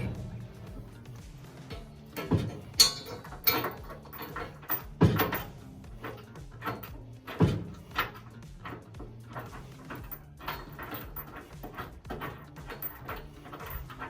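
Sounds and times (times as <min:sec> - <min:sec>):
heavy metal clunks and knocks: 0:00.0 - 0:14.0.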